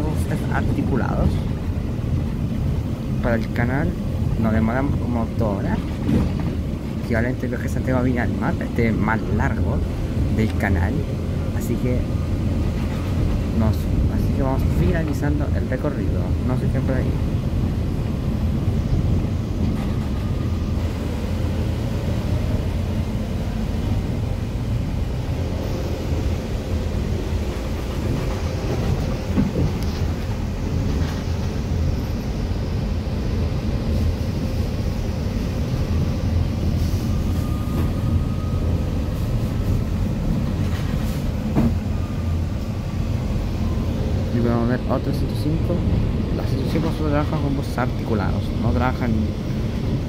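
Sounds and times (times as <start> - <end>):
bus diesel engine: 0.0 - 50.0
road rumble: 0.0 - 50.0.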